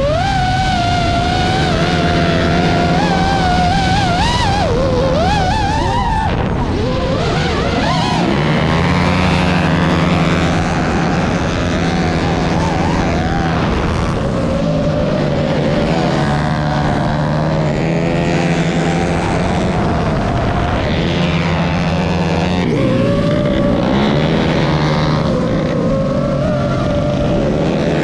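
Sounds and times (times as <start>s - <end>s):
drone motors whining: 0.0s - 28.0s
motorcycle engines revving: 0.0s - 28.0s.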